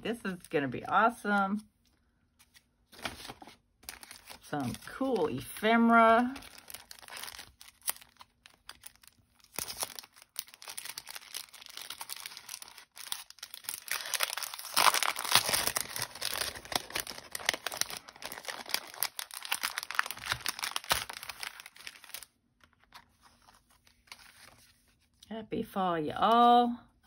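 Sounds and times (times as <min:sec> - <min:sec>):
plastic packaging crinkling: 0:02.4 - 0:25.0.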